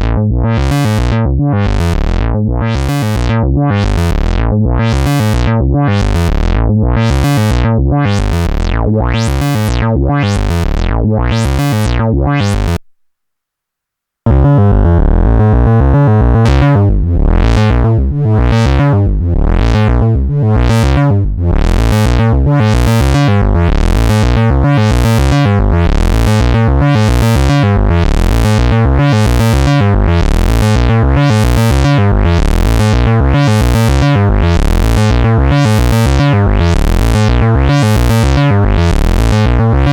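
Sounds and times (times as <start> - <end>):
synthesizer wah over buzzy tone: 0.0 - 12.8, 14.3 - 39.9.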